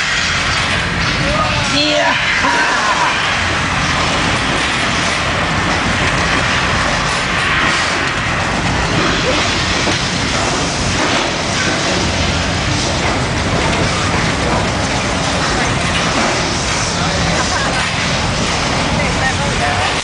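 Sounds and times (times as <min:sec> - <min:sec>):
staged earthquake rumble and crashing: 0:03.1 - 0:20.0.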